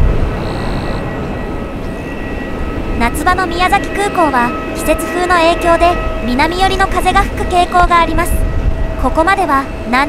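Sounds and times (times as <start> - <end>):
jet engine deep rumble: 0.0 - 10.0
jet engine thin whine: 0.0 - 10.0.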